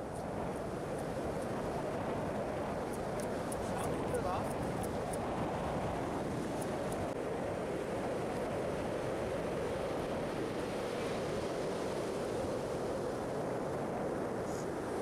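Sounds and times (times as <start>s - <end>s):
ocean surf: 0.0s - 15.0s
wind noise on microphone: 0.0s - 15.0s.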